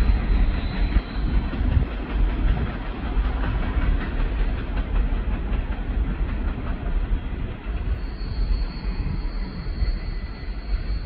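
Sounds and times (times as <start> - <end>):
train rolling on rails: 0.0 - 11.0.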